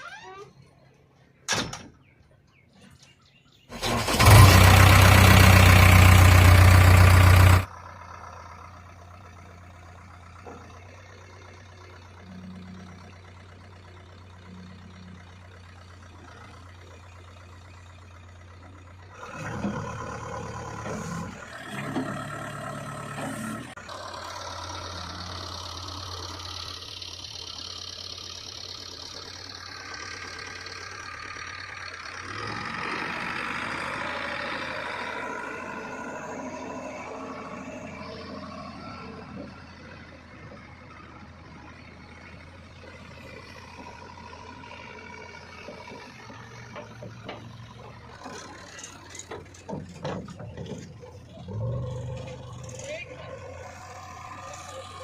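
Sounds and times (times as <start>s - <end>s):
diesel engine cranking and running: 0.0s - 55.0s.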